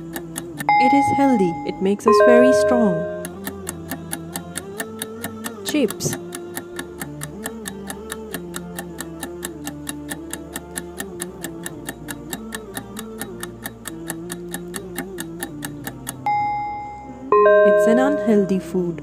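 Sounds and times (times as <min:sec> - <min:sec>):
clock ticks: 0:00.0 - 0:18.7
soft background music: 0:00.0 - 0:19.0.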